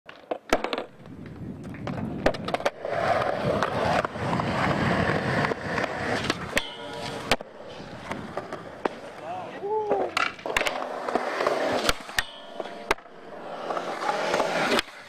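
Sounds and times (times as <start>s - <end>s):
skateboard loud clack: 0.1s - 9.3s, 9.9s - 15.0s
skateboard clicks: 0.1s - 15.0s
skateboard wheels rolling on concrete: 0.1s - 15.0s
skateboard grinding rasp: 0.7s - 9.2s, 10.0s - 15.0s.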